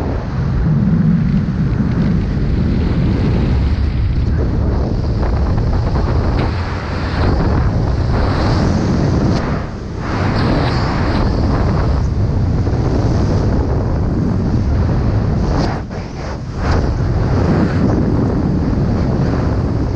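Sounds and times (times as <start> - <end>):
wind rumble on microphone: 0.0 - 19.9.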